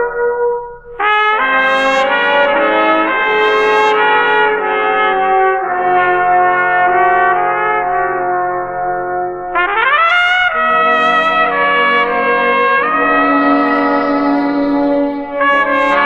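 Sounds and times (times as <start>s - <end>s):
brass music with trumpet: 0.0s - 16.0s.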